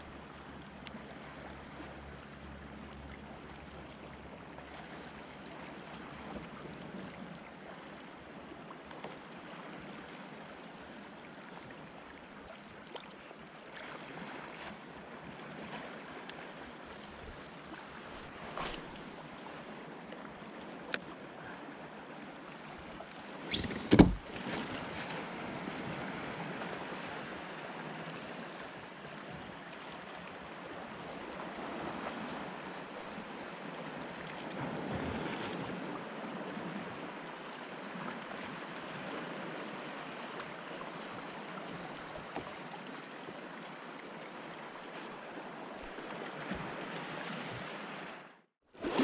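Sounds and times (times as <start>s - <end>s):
water lapping against hull: 0.0s - 49.0s.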